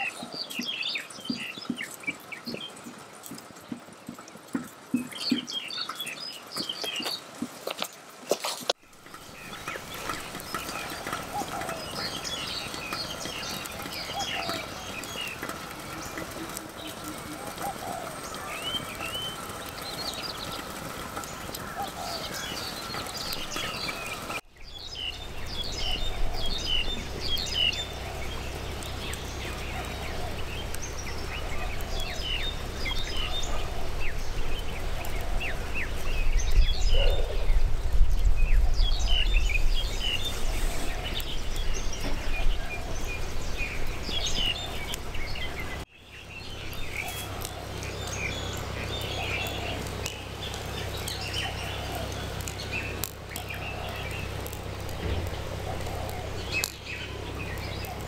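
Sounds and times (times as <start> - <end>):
small birds chirping: 0.0 - 58.0
low steady rumble: 8.9 - 58.0.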